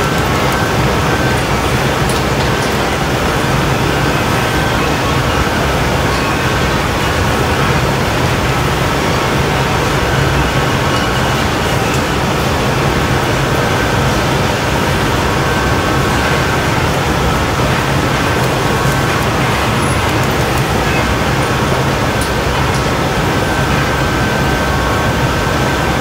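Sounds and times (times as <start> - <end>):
ventilation fan hum: 0.0 - 26.0.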